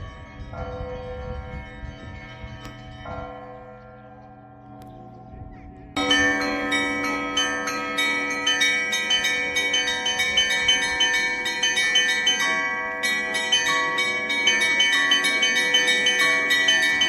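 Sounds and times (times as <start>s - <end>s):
large bells ringing: 0.0s - 17.0s.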